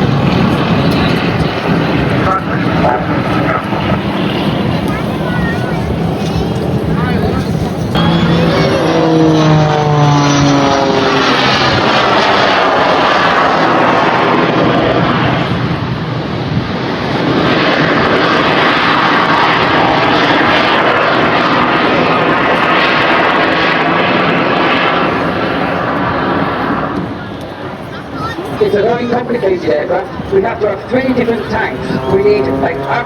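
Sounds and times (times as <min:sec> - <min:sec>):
propeller aircraft engines flying past: 0:00.0 - 0:33.0.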